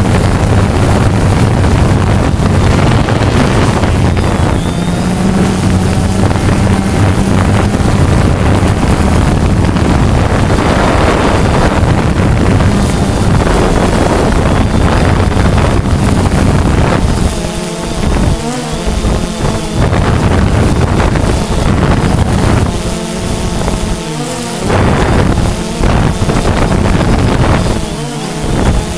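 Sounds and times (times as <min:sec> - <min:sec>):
drone propellers buzzing: 0:00.0 - 0:28.9
wind rushing over microphone: 0:00.0 - 0:28.9.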